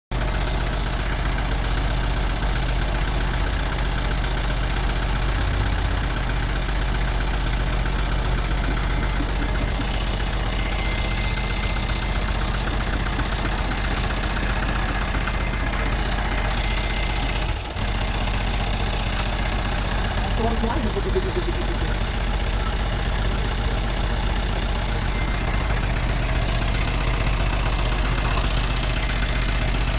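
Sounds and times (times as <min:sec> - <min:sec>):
excavator engine idling: 0:00.1 - 0:29.9.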